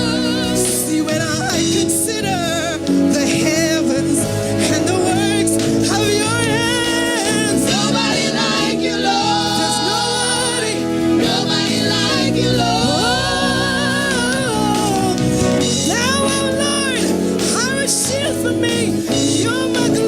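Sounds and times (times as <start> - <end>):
gospel choir singing: 0.0 - 20.0
keyboard accompaniment: 0.0 - 20.0.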